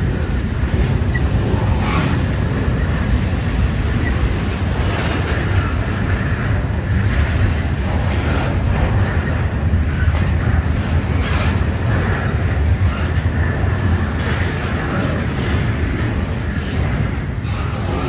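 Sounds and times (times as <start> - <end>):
train wheels rumbling on rails: 0.0 - 18.0
wheel clacks and squeals: 0.0 - 18.0.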